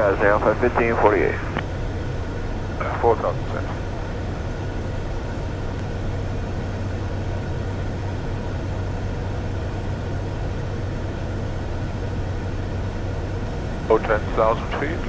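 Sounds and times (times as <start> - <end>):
turboprop engine drone: 0.0 - 15.0.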